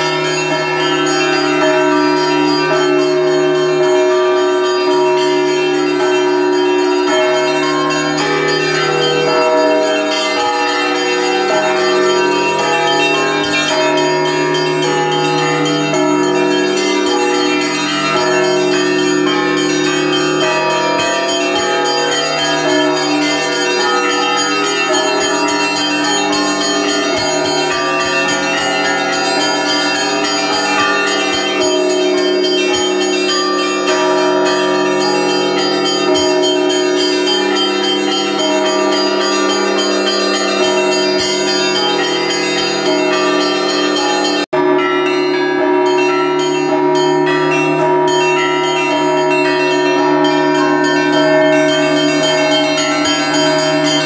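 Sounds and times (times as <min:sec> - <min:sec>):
church bells pealing: 0:00.0 - 0:54.0
large bell ringing: 0:00.0 - 0:54.0.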